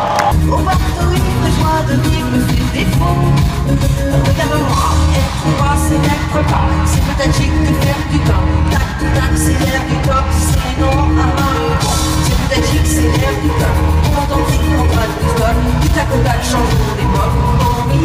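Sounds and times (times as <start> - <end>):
heavy bass: 0.0 - 18.0
live pop concert music: 0.0 - 18.0
person singing: 0.0 - 18.0.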